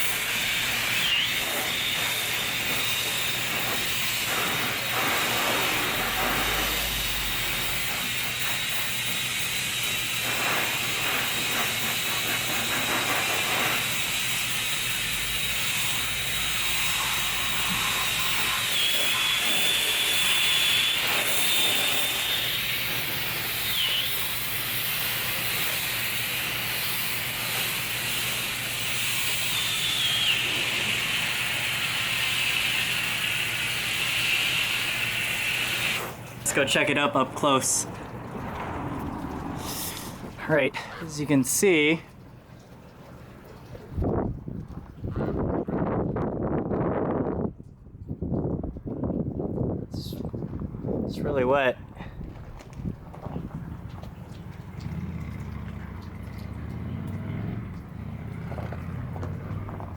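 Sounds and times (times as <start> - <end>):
water spray drumming on cover: 0.0 - 44.2, 53.5 - 59.9.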